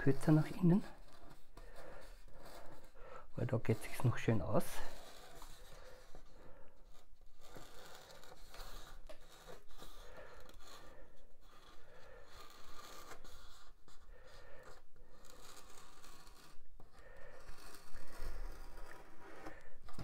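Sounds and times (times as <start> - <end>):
pen scratching on foam board: 0.0 - 20.0.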